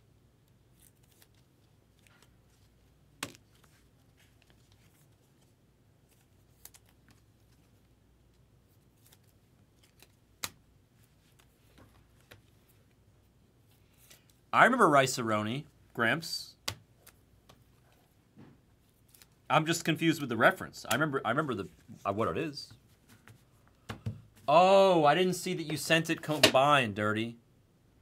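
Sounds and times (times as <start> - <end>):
handling trading cards: 0.4 - 14.5, 16.5 - 24.5, 25.1 - 26.7.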